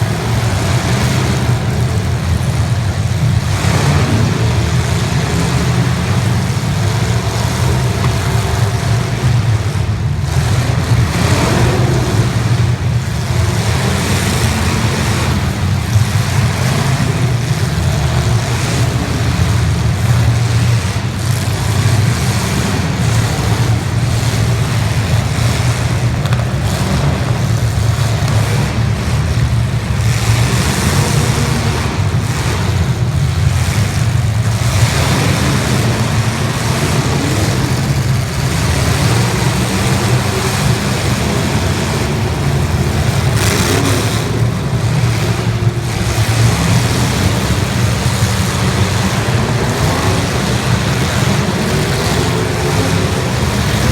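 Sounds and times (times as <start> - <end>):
car engines rumbling: 0.0 - 53.9.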